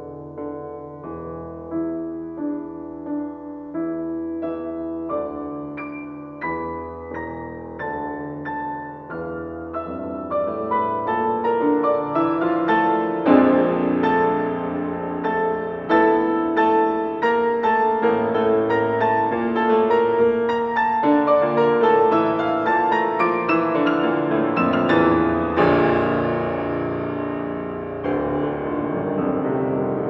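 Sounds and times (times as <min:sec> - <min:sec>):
solo piano playing: 0:00.0 - 0:30.0.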